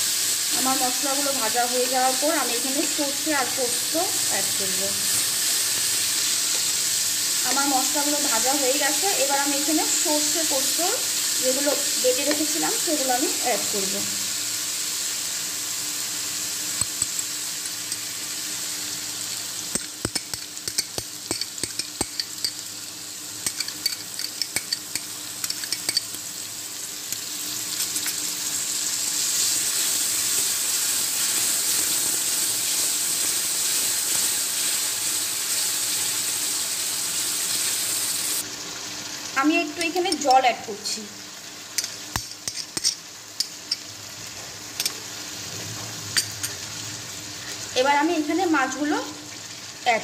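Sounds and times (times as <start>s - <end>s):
spices and oil sizzling in pan: 0.0s - 50.0s.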